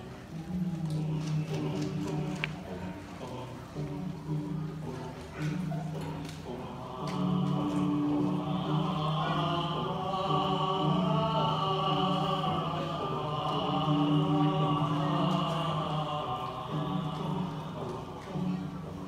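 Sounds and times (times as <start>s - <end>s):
male choir singing in harmony: 0.0s - 19.0s.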